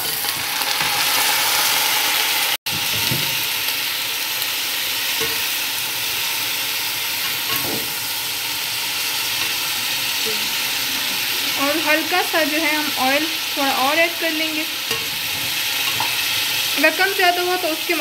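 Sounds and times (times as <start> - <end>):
chicken frying in oil: 0.0 - 18.0.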